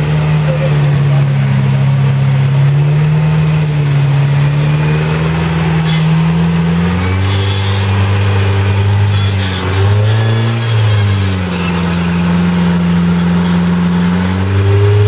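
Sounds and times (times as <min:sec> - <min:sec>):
buggy engine running under load: 0:00.0 - 0:15.0.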